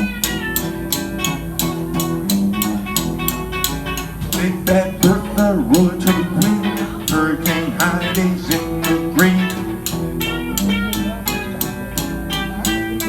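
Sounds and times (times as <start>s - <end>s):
guitar playing: 0.0s - 13.0s
steady beat: 0.0s - 13.0s.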